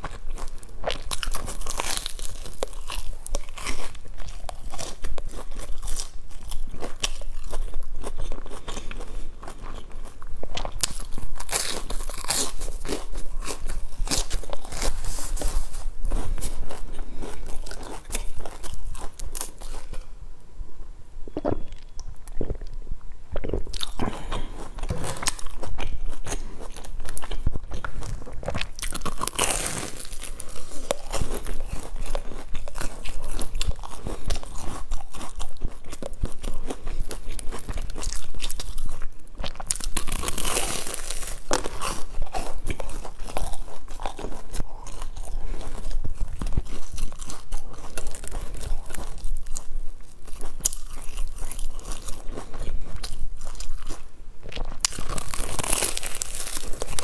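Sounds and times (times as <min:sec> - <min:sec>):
biting and chewing crusty bread: 0:00.0 - 0:20.2, 0:23.3 - 0:57.0.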